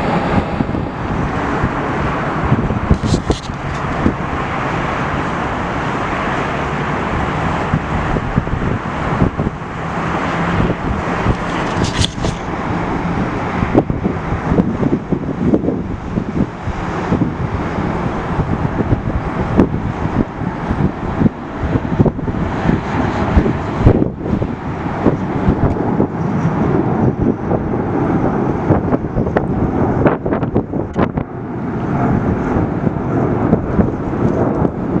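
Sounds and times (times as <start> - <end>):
steady low rumble: 0.0 - 35.0
strong wind buffeting microphone: 0.0 - 35.0.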